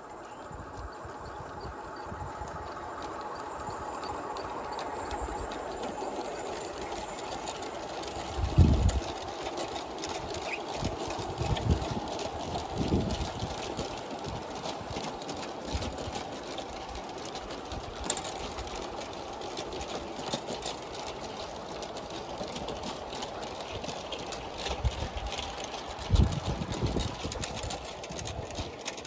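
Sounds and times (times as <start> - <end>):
model train wheels rumbling on track: 0.0 - 29.0
wheel clicks over rail joints: 0.0 - 29.0.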